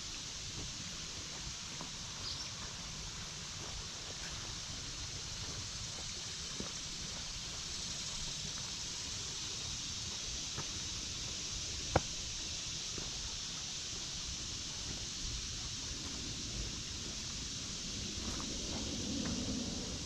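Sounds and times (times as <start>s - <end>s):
creek water hiss: 0.0s - 20.0s.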